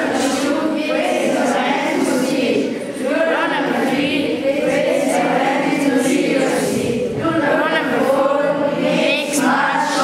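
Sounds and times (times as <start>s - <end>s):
children chanting in unison: 0.0s - 10.0s.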